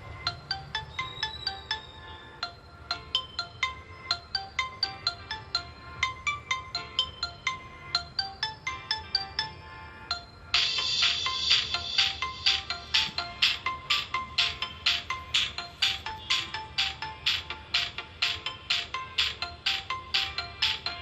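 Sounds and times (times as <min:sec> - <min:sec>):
soft low music bed: 0:00.0 - 0:21.0.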